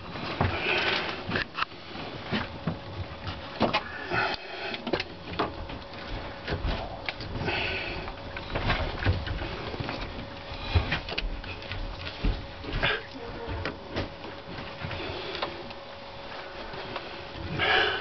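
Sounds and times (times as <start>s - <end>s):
faint steady hum: 0.0s - 18.0s
knocks and scraping on ductwork: 0.0s - 18.0s.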